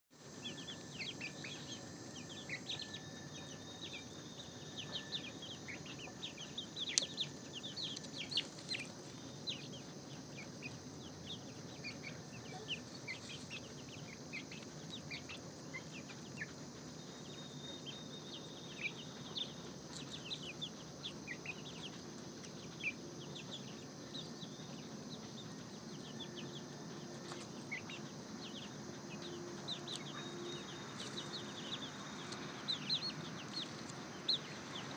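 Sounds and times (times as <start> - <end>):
chicks peeping and cheeping: 0.2 - 34.9.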